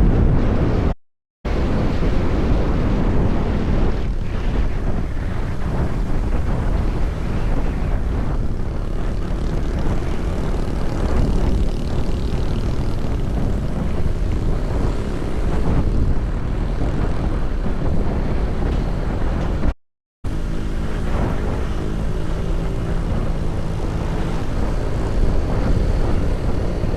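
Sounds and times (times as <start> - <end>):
wind rush on microphone: 0.0 - 26.9
vehicle engine running: 2.3 - 19.7, 20.3 - 26.9.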